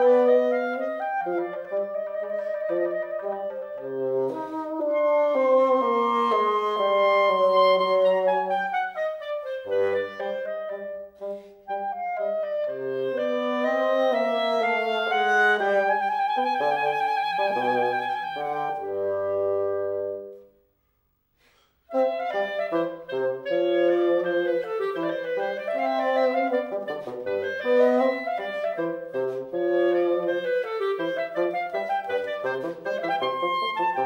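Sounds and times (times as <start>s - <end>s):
clarinet melody: 0.0s - 20.6s, 21.5s - 34.0s.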